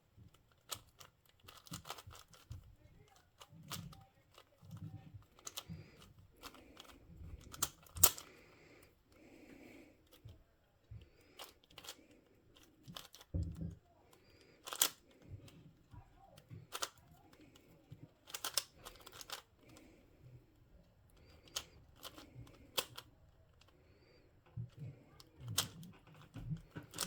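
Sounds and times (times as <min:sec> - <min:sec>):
plastic puzzle clicking: 0:00.2 - 0:20.1, 0:21.1 - 0:27.0.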